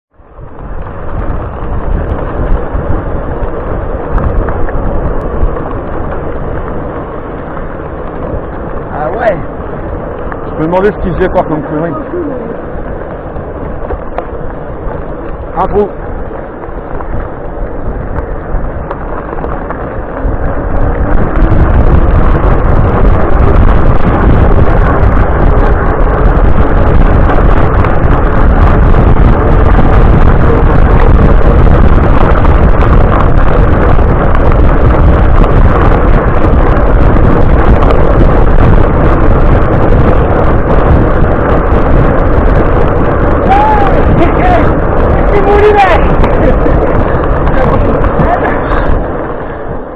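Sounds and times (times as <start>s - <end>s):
bicycle rolling on road: 0.1s - 49.9s
wind buffeting microphone: 0.1s - 49.9s.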